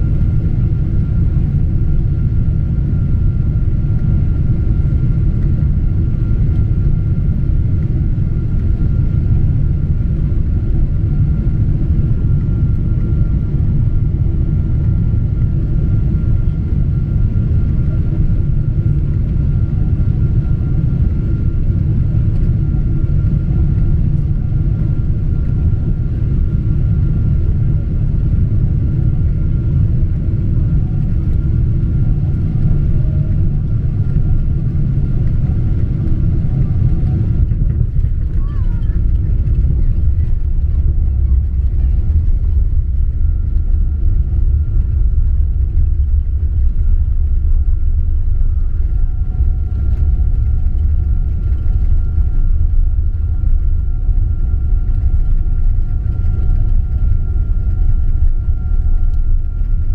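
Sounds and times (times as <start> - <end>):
engine and airflow rumble: 0.0 - 59.9.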